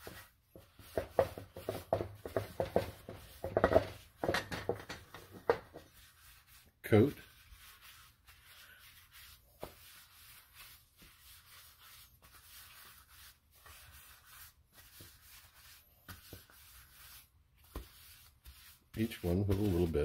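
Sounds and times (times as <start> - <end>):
paper towel rubbing metal tin: 0.0 - 20.0.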